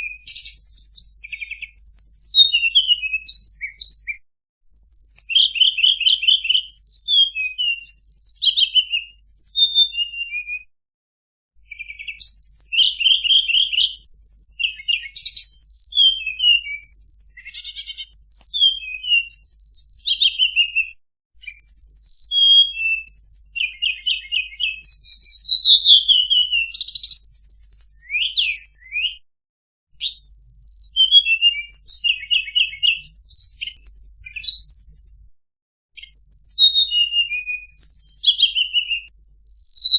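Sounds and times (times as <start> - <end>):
songbird singing: 0.0 - 4.2, 4.8 - 10.6, 11.6 - 29.2, 30.0 - 35.3, 36.0 - 39.9.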